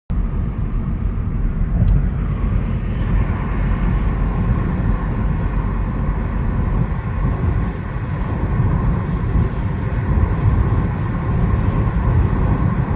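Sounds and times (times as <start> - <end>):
faint high whine: 0.1 - 12.9
low rumble from car wheel: 0.1 - 12.9.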